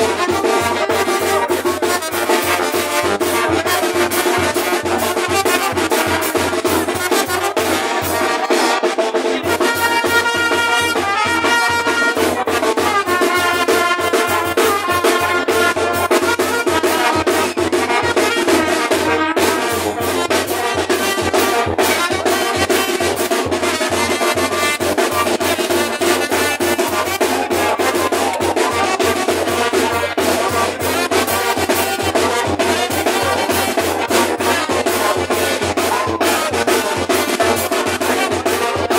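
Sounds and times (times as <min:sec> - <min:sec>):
brass band music: 0:00.0 - 0:38.9
steady drum beat: 0:00.0 - 0:38.9.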